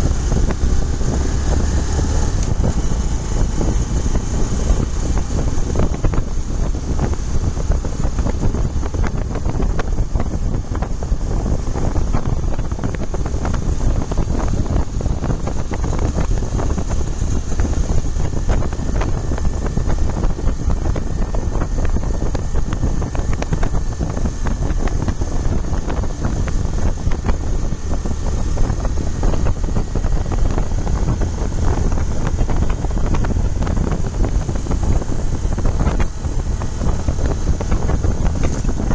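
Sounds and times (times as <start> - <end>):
low engine rumble: 0.0 - 38.9
wind rushing over microphone: 0.0 - 38.9.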